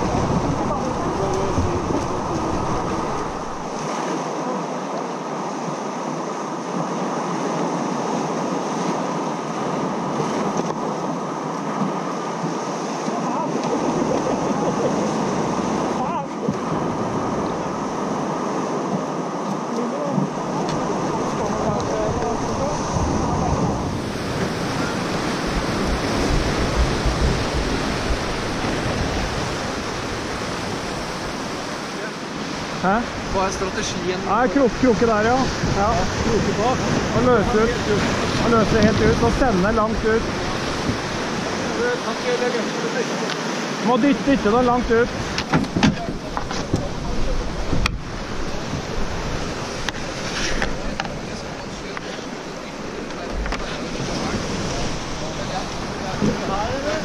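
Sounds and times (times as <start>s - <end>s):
wind on the microphone: 0.0s - 4.2s, 6.0s - 42.0s, 43.6s - 57.0s
sea surf breaking on rocks: 0.0s - 57.0s.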